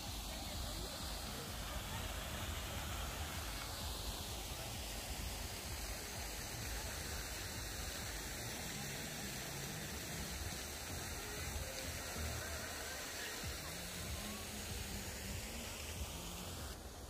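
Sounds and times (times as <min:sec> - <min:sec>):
fountain water splashing into basin: 0:00.0 - 0:17.0.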